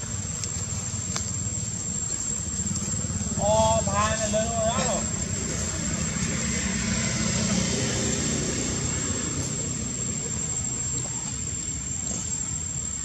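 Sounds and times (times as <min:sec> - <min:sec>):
high steady whine: 0:00.0 - 0:13.0
vehicle engine rumbling: 0:00.0 - 0:13.0.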